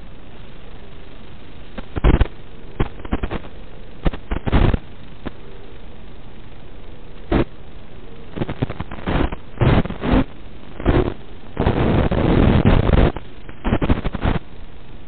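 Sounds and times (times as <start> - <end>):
loud bursts of static: 0.0 - 15.0
receiver audio hiss: 0.0 - 15.0.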